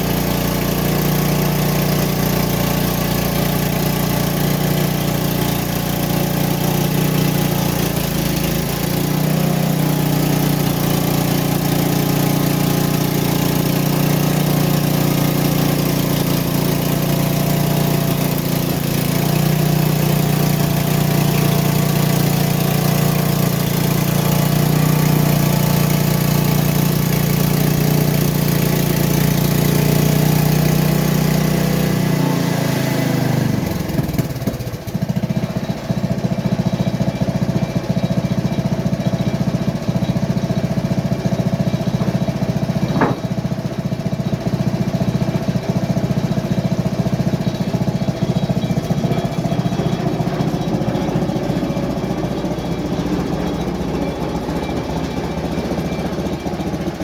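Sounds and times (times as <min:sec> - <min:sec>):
small engine under load: 0:00.0 - 0:57.0.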